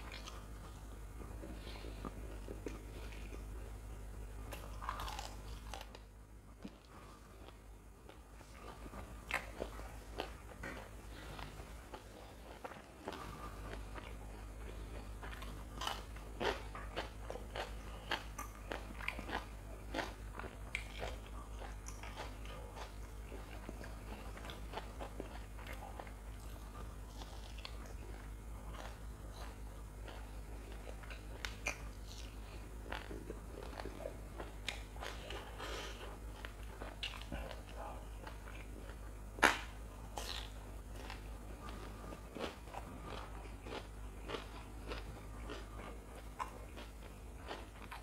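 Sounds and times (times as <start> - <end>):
low electrical hum: 0.0 - 48.0
crunching and chewing snacks: 4.4 - 48.0.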